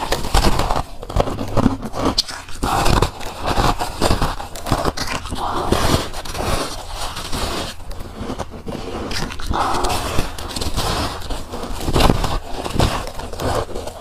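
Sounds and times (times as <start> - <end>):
person crunching frost: 0.0 - 14.0.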